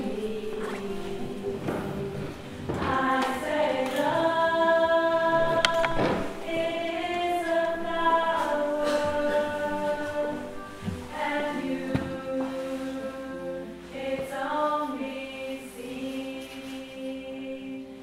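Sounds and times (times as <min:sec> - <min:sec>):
choir singing long chords: 0:00.0 - 0:18.0.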